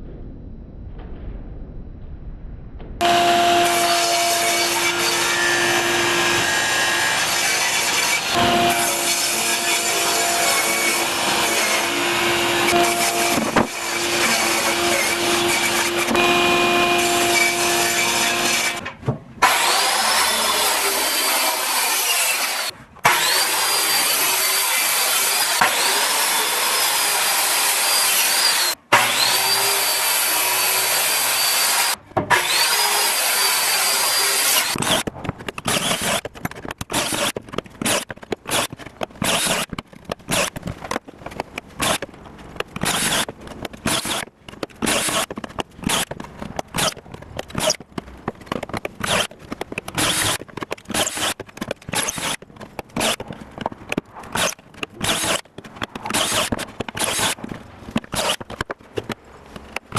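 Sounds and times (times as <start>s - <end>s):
power saw cutting wood: 3.0s - 41.0s, 42.8s - 47.8s, 48.4s - 58.6s
choppy bursts of tool noise: 3.0s - 59.9s.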